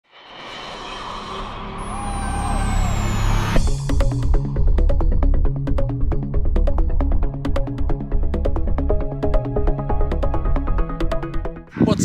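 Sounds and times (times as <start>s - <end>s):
electronic intro music: 0.4s - 11.7s.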